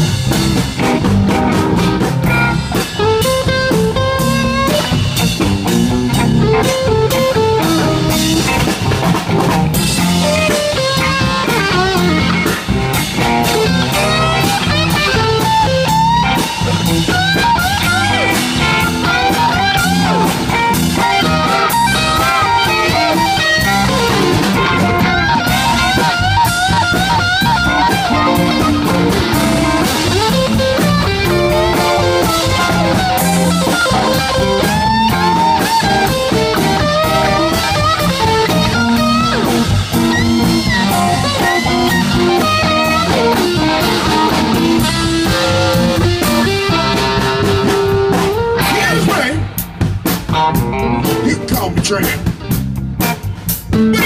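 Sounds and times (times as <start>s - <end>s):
lead guitar bent notes: 0.0s - 54.0s
live blues band playing: 0.0s - 54.0s.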